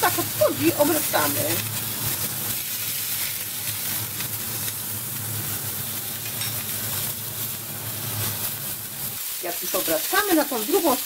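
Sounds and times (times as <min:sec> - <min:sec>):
steaks sizzling in a frying pan: 0:00.0 - 0:11.0.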